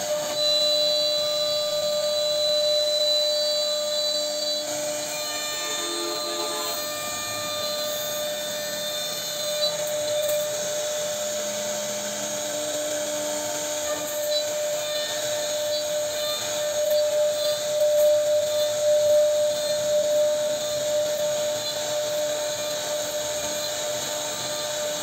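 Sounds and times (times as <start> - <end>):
cnc router spindle whine: 0.0 - 25.0.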